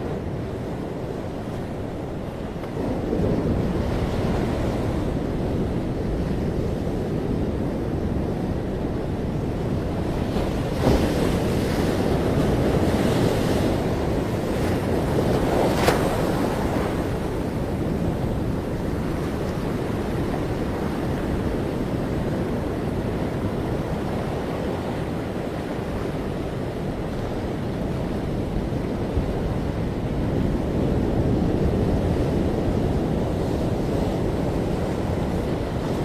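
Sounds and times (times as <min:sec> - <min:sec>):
ocean waves breaking: 0:00.0 - 0:36.0
wind buffeting microphone: 0:00.0 - 0:36.0.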